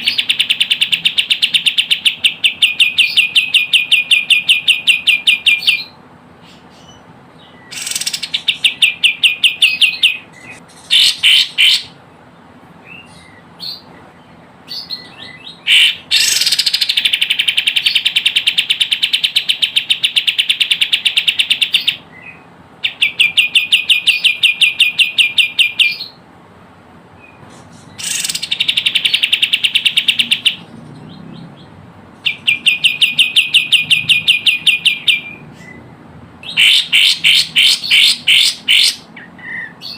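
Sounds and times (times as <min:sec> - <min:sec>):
bird trilling: 0:00.0 - 0:12.0, 0:14.7 - 0:26.2, 0:27.2 - 0:39.9.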